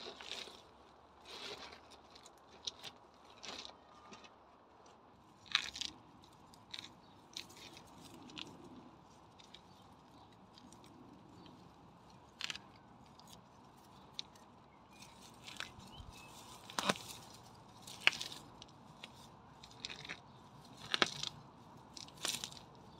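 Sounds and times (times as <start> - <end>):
weeds pulled from pebbles: 0.0 - 22.9.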